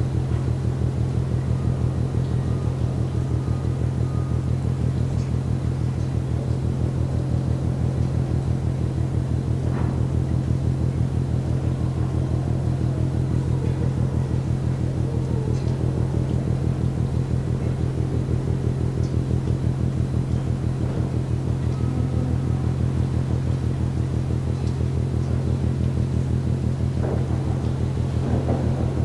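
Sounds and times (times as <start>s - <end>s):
ship engine pounding: 0.0s - 29.0s.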